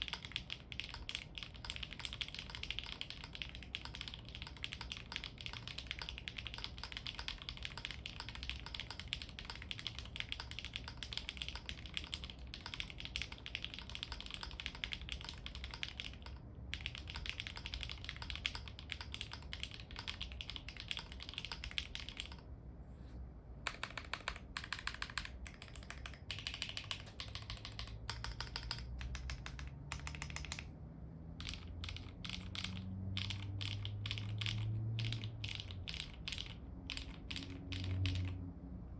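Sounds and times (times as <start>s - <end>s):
long keyboard key presses: 0.0s - 22.4s, 23.6s - 30.7s, 31.4s - 38.4s
mechanical keyboard typing: 0.0s - 22.4s, 23.6s - 30.7s, 31.4s - 38.4s.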